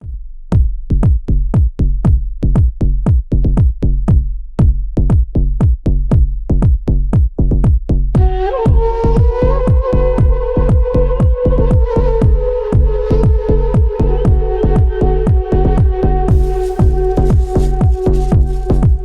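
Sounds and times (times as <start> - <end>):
drum-machine kick beat: 0.0 - 19.0.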